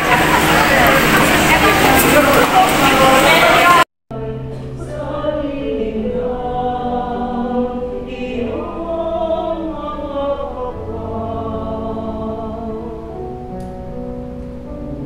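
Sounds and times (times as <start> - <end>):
choir singing held notes: 0.0 - 14.0.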